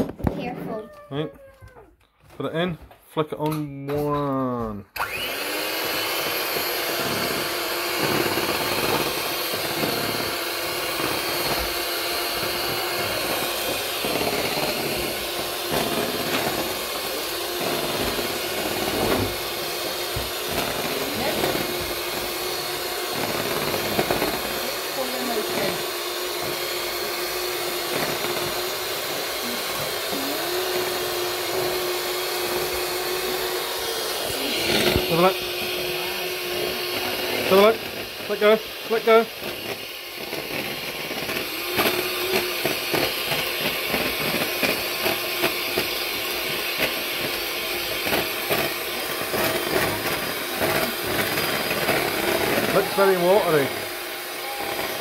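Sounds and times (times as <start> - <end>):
electric hand mixer whine: 0.0 - 1.8, 3.9 - 55.0.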